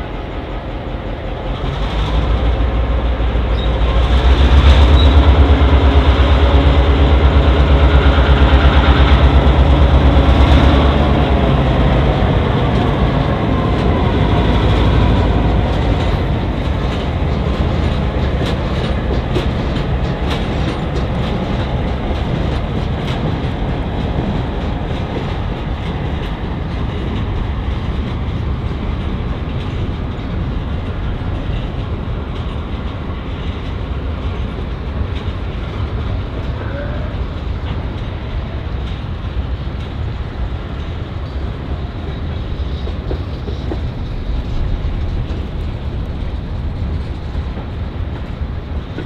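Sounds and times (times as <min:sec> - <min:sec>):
freight train rumbling past: 0:00.0 - 0:49.0
wheels clicking over rail joints: 0:01.5 - 0:49.0.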